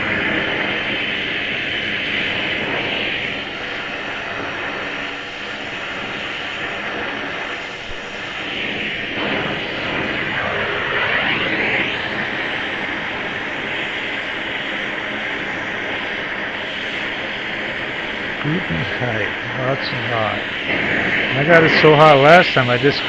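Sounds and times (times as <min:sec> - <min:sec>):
torch burning with roaring hiss: 0:00.0 - 0:23.0.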